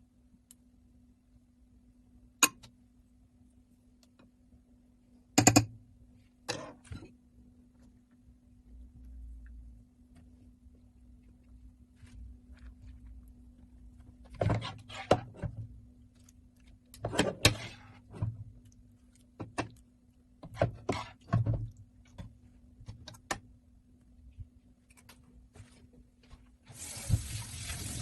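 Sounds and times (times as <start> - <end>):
steady low hum: 0.0 - 26.6.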